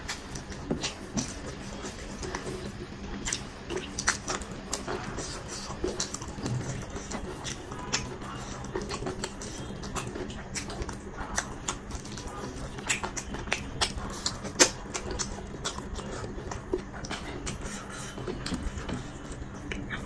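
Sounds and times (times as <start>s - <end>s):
person chewing with wet smacks: 0.0s - 20.0s.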